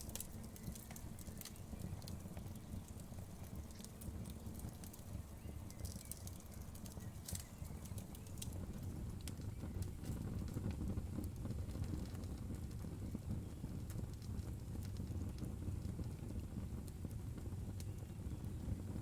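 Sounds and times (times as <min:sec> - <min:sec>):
fire pops and snaps: 0:00.0 - 0:19.0
low rumble of flames: 0:00.0 - 0:19.0.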